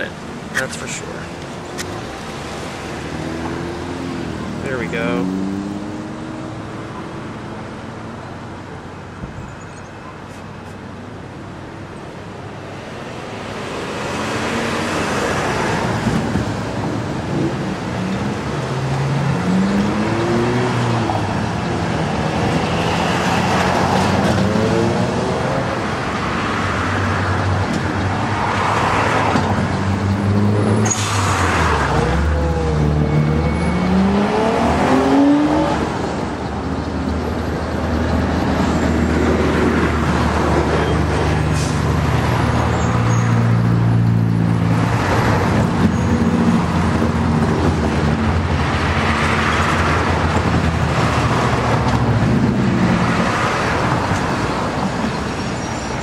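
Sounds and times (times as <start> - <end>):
vehicles passing and accelerating: 0.0 - 56.0.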